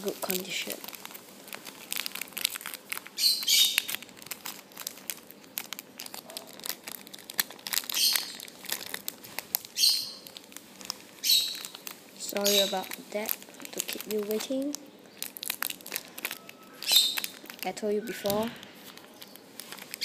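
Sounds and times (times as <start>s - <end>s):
crinkly packaging handled: 0.0s - 20.0s.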